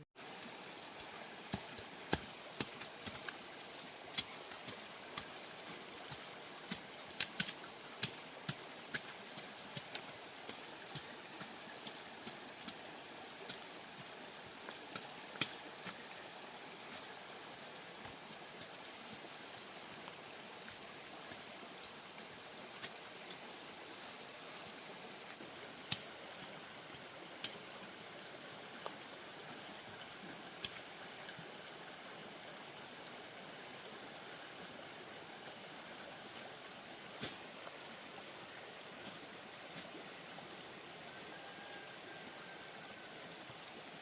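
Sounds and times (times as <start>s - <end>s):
high-pitched outdoor drone and hiss: 0.0s - 44.0s.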